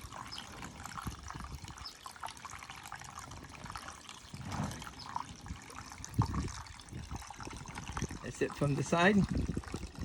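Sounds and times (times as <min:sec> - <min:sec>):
water trickling and gurgling: 0:00.0 - 0:10.0.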